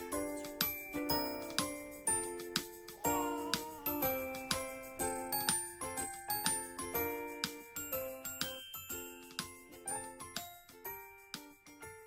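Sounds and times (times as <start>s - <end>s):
tinkling children's tune on mallets: 0.0s - 12.0s.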